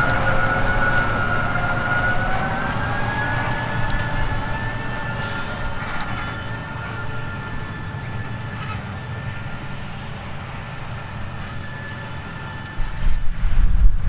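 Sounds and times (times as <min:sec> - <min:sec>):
diesel engine rumble: 0:00.0 - 0:14.0
high machine whine: 0:00.0 - 0:14.0.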